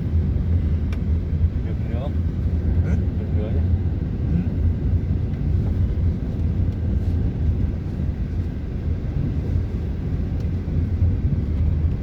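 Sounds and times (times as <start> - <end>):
road noise wash: 0.0 - 12.0
vehicle engine rumble: 0.0 - 12.0.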